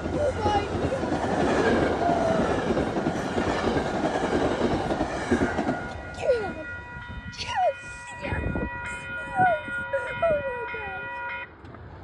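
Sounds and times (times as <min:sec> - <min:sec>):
train wheels rushing on rail: 0:00.0 - 0:10.8.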